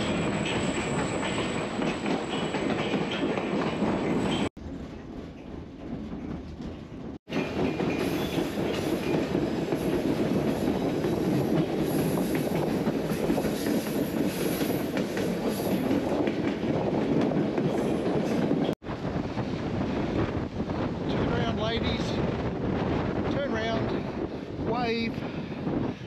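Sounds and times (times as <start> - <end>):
train rolling on track: 0.0 - 26.0.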